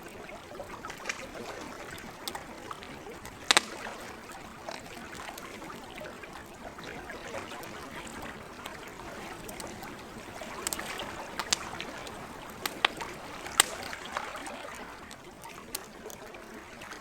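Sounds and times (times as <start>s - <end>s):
campfire crackling and popping: 0.0s - 17.0s
lake water washing: 0.0s - 17.0s.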